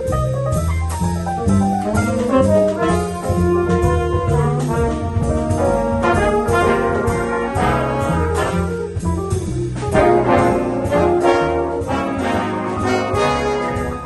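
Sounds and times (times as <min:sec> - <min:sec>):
bass line: 0:00.0 - 0:14.0
jazz band playing: 0:00.0 - 0:14.0
brass instruments: 0:01.4 - 0:14.0.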